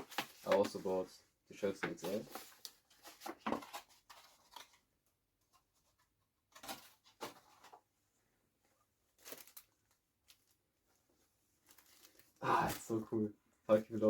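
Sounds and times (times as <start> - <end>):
rustling of shirt and packaging: 0.0 - 4.9, 6.5 - 14.0.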